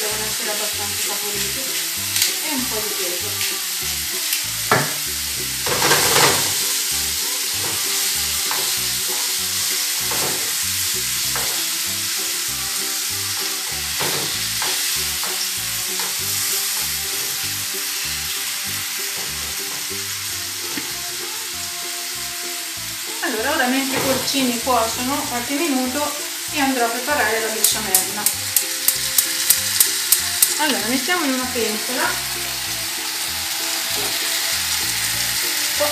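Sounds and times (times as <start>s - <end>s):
mushrooms sizzling in a pan: 0.0s - 35.9s.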